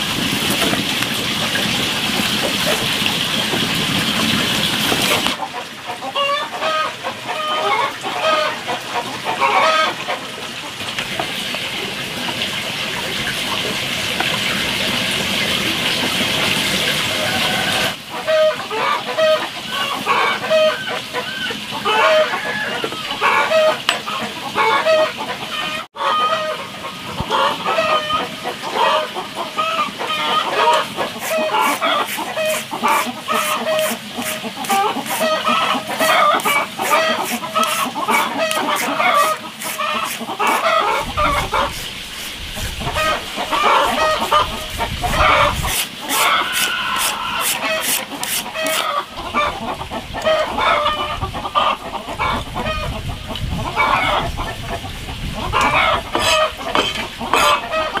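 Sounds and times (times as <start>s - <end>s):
chickens clucking: 0.5s - 14.6s, 16.8s - 58.0s.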